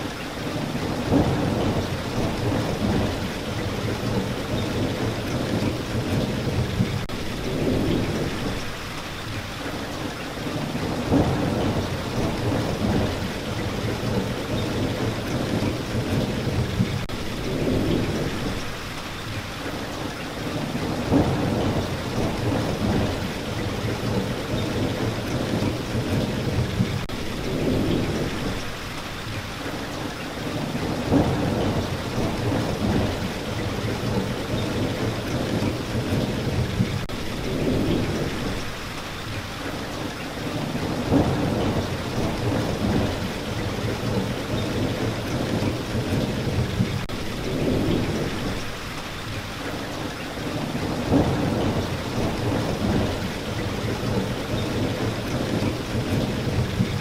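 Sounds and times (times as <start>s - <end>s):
heavy rain: 0.0s - 57.0s
rumbles of thunder: 0.4s - 8.8s, 10.4s - 18.8s, 20.4s - 28.8s, 30.4s - 38.8s, 40.4s - 48.8s, 50.4s - 57.0s.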